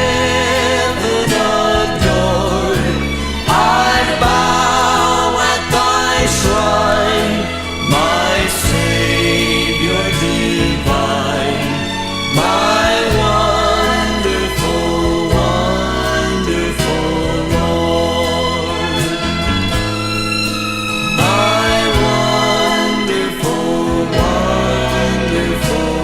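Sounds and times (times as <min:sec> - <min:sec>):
band accompaniment with bass: 0:00.0 - 0:26.0
gospel group singing: 0:00.0 - 0:26.0.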